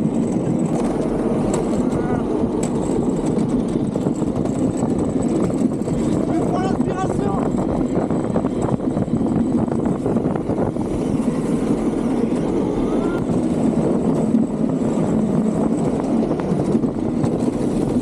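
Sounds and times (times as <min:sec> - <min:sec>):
cart wheels rumbling on pavement: 0:00.0 - 0:18.0.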